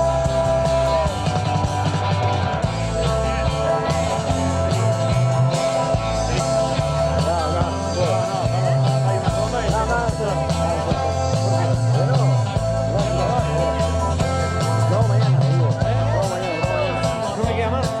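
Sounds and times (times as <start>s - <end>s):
live rock music: 0.0s - 18.0s.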